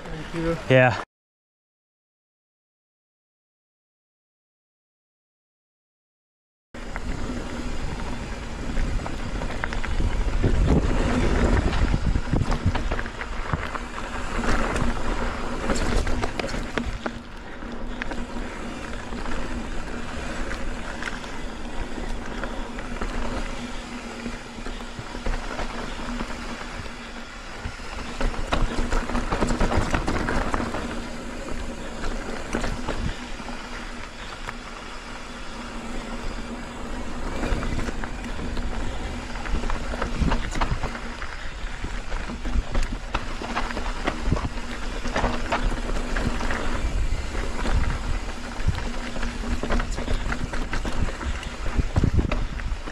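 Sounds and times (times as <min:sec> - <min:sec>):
bike tyres rolling on dirt: 0:00.0 - 0:01.0, 0:06.8 - 0:52.9
bike knocking and rattling: 0:06.8 - 0:52.9.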